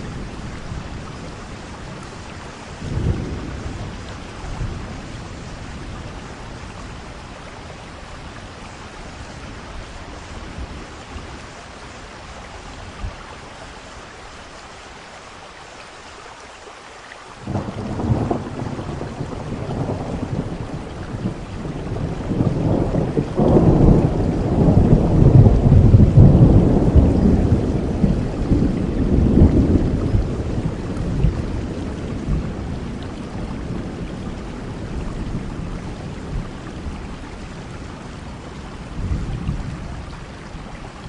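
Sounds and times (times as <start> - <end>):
thunder rumbling: 0.0 - 11.6, 17.4 - 41.0
steady rain: 0.0 - 41.0.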